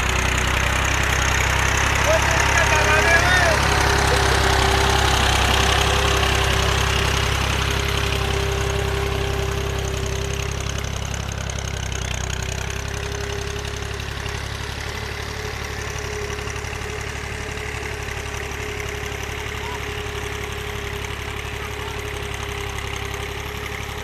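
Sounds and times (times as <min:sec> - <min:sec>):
tractor diesel engine rumble: 0:00.0 - 0:24.0.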